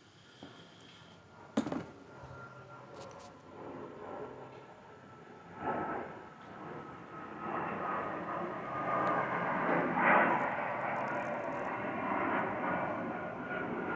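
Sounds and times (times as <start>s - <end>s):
distant engine noise: 0.0s - 13.9s.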